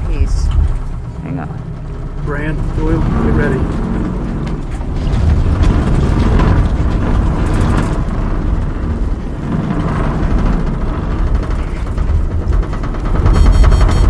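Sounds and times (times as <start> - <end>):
continuous low rumble: 0.0 - 14.0
rattling and crackling: 0.0 - 14.0.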